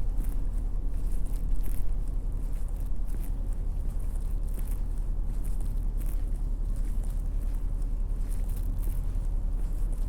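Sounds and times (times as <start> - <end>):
footsteps crunching through snow: 0.0 - 10.0.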